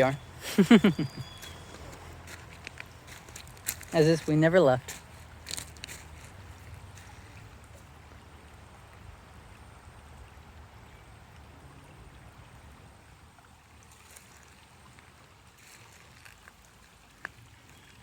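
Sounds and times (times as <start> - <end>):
faint moving water: 0.0 - 18.0.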